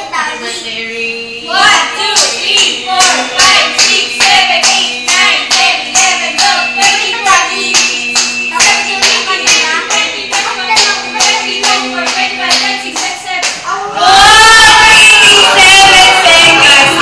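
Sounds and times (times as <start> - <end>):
voices singing: 0.0 - 17.0
group clapping in rhythm: 1.6 - 17.0.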